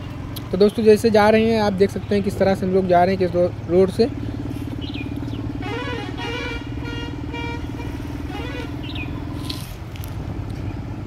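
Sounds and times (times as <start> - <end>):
vehicle engine humming while driving: 0.0 - 11.0.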